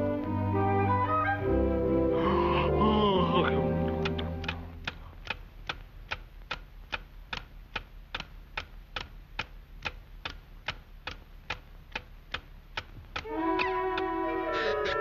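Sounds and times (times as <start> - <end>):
clock ticking: 2.9 - 15.0.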